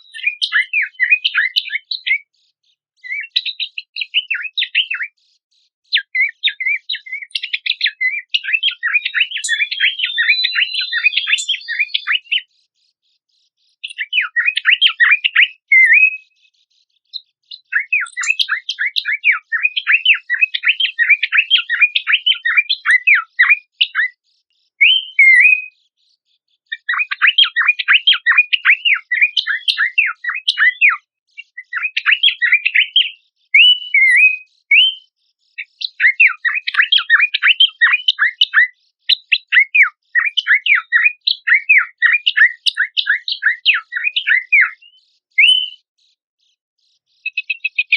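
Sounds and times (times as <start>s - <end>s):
songbird singing: 0.0s - 13.0s, 13.8s - 16.4s, 17.0s - 25.7s, 26.7s - 46.0s, 47.2s - 47.9s.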